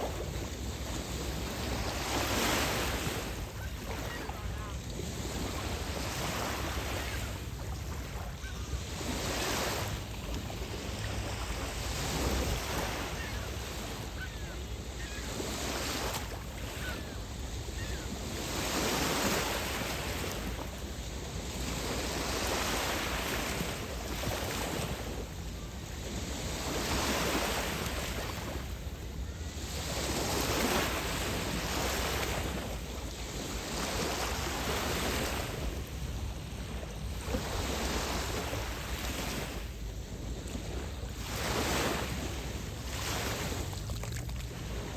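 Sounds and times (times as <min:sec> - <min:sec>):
waves washing onto beach: 0:00.0 - 0:44.9.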